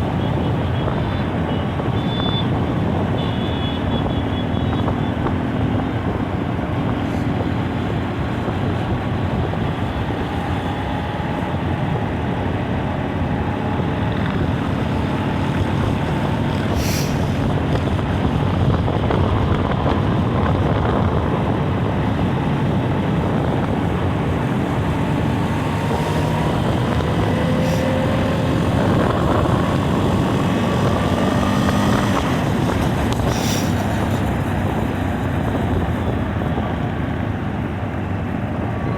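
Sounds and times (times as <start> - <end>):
diesel truck engine running hard: 0.0 - 38.9
wind noise: 0.0 - 38.9.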